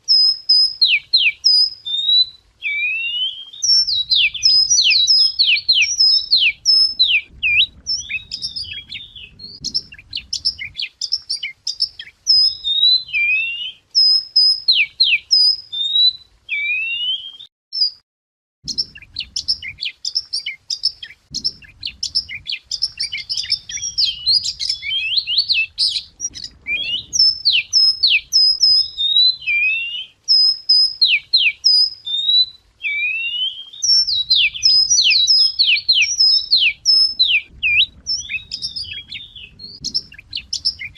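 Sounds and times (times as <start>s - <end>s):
wagtail singing: 0.0s - 18.0s, 18.6s - 40.9s.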